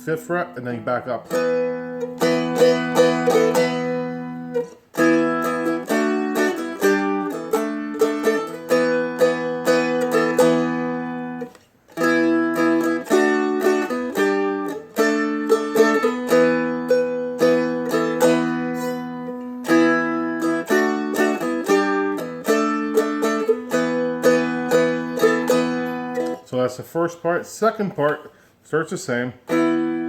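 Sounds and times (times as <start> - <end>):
strummed string instrument chords: 0.0 - 26.7, 29.4 - 30.0.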